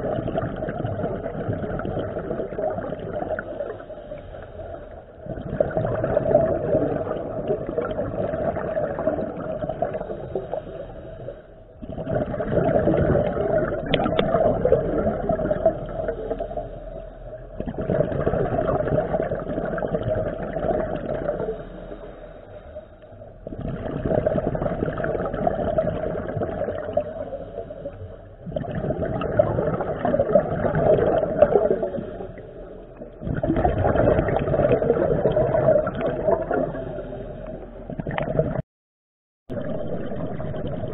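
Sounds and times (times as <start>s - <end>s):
exhaust bubbles gurgling underwater: 0.0s - 38.6s, 39.5s - 40.9s.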